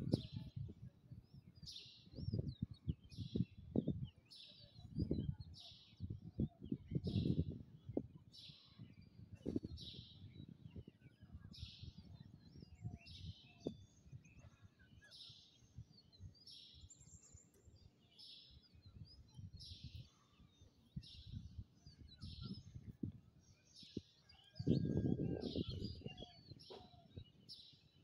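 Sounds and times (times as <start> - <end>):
thin bird chirps: 0.0 - 28.0.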